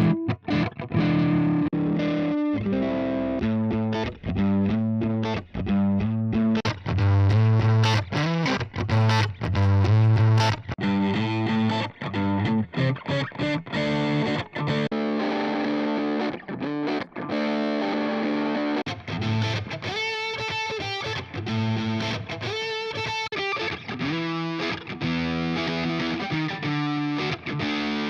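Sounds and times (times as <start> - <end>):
distorted electric guitar chords: 0.0 - 5.7, 6.4 - 28.0.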